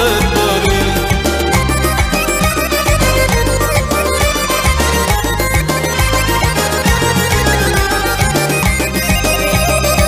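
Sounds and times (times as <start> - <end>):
folk-pop dance music: 0.0 - 10.0.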